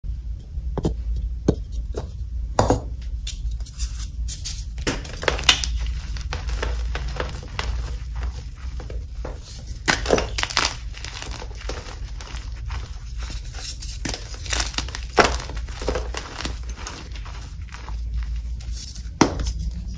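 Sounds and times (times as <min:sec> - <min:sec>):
chalk blocks crunching and crumbling: 0:03.6 - 0:19.9.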